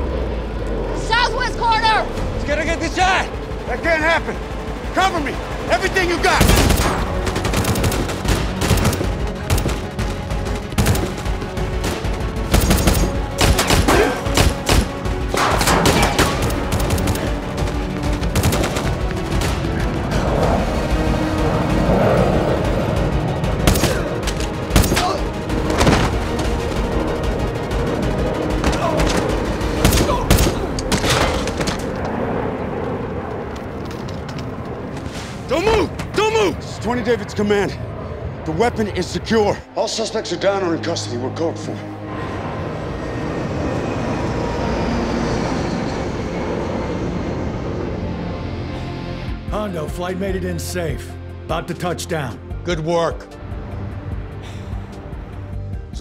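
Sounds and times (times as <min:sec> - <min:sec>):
dramatic music: 0:00.0 - 0:56.0.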